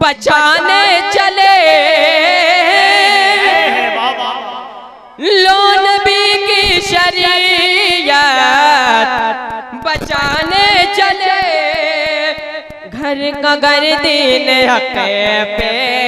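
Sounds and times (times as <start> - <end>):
boy singing unaccompanied: 0.0 - 4.2, 5.2 - 16.0.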